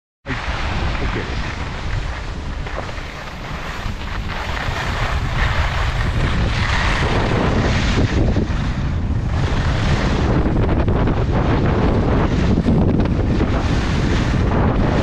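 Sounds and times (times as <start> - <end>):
skis scraping over snow: 0.3 - 15.0
wind buffeting microphone: 0.3 - 15.0.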